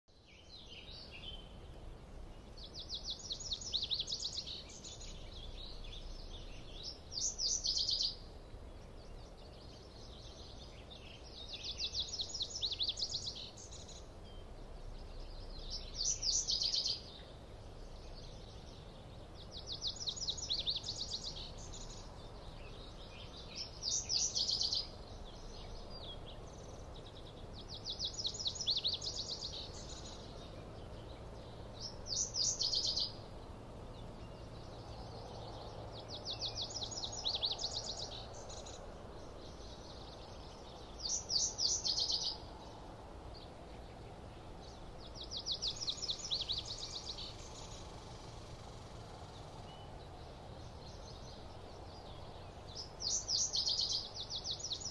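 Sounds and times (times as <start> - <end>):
faint low rumble: 0.1 - 54.9
songbird trilling: 2.5 - 18.8, 19.4 - 33.3, 34.0 - 42.8, 43.8 - 50.0, 51.1 - 54.9.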